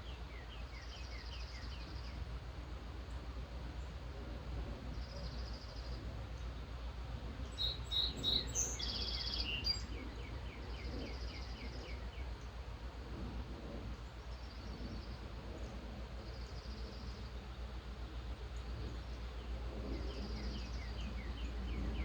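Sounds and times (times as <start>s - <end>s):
songbirds singing: 0.0s - 22.0s
steady low rumble: 0.0s - 22.0s.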